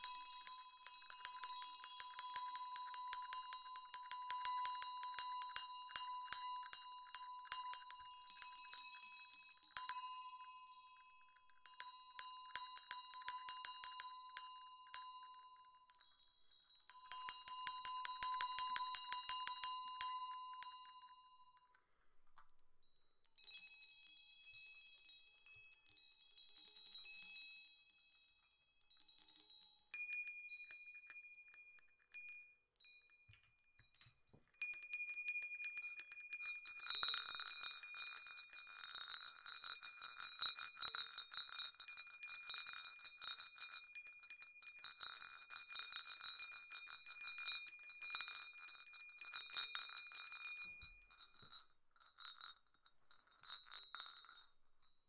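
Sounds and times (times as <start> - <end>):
jingle bells shaken: 0.0 - 21.4, 23.2 - 54.5.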